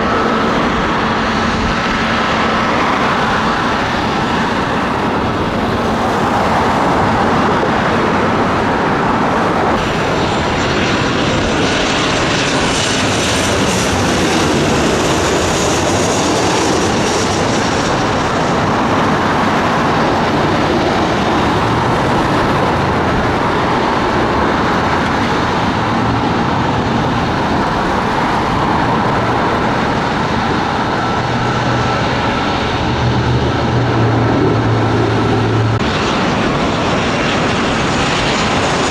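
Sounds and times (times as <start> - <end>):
jet airliner engines roaring: 0.0 - 38.9.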